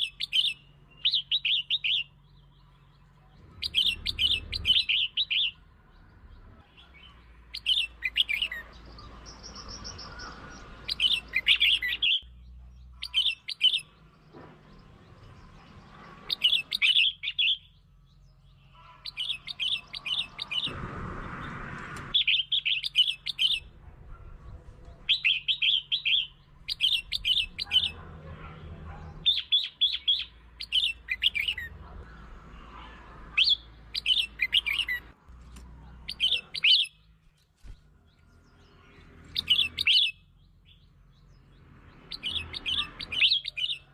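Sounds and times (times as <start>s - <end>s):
bird singing chattering phrases: 0.0s - 20.8s, 22.1s - 43.9s.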